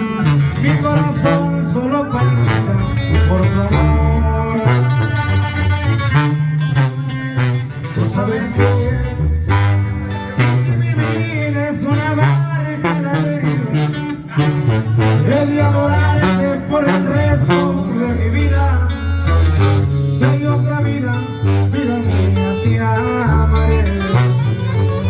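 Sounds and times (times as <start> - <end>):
instrumental music: 0.0 - 25.0
tuba bass line: 0.0 - 25.0.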